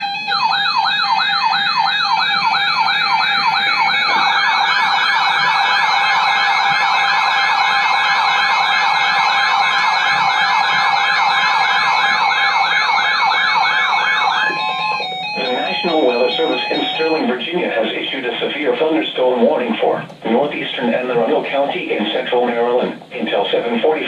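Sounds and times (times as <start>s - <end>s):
electronic siren yelping: 0.0s - 20.1s
steady siren tones: 0.0s - 24.0s.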